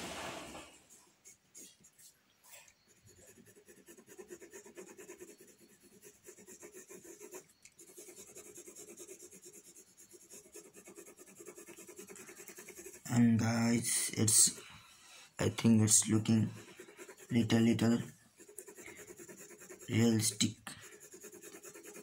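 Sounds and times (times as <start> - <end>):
pencil scratching on paper: 2.5 - 14.6, 15.5 - 22.0.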